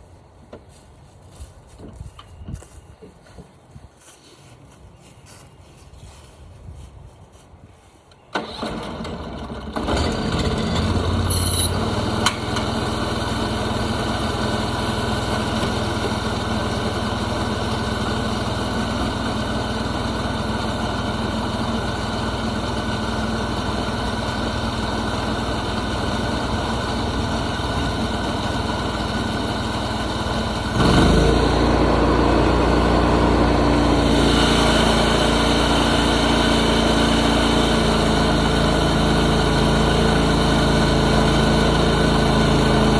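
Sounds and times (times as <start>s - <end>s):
sawmill engine running: 8.4s - 42.9s.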